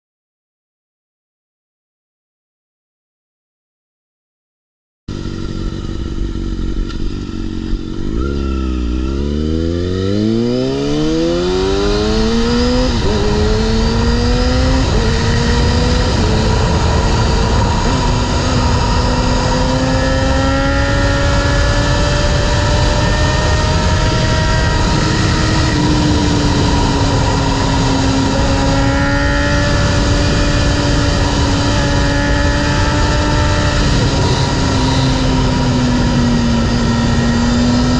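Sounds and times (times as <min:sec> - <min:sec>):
motorcycle engine accelerating: 0:05.1 - 0:37.9
wind noise on microphone: 0:05.3 - 0:37.9.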